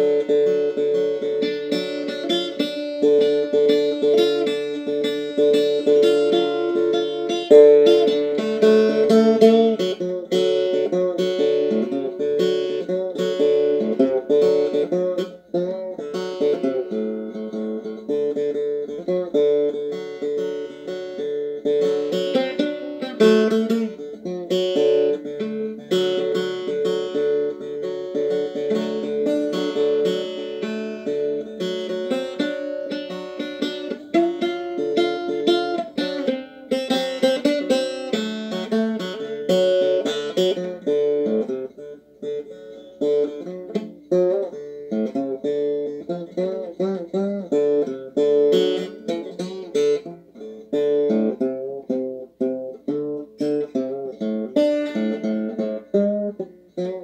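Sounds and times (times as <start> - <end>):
banjo blues tune: 0.0 - 57.0.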